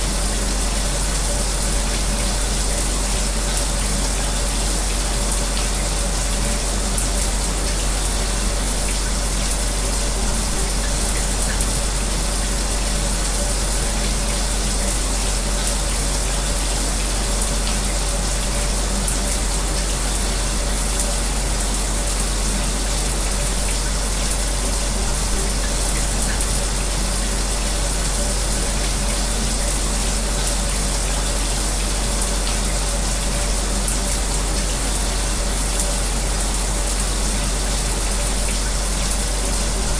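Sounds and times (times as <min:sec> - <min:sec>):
faint steady hum: 0:00.0 - 0:39.9
shower spraying water: 0:00.0 - 0:39.9.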